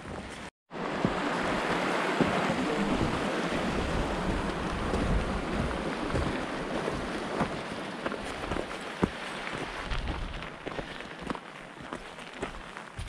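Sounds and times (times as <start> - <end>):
wind buffeting microphone: 0.1 - 11.4
stream rushing over rocks: 0.7 - 12.8.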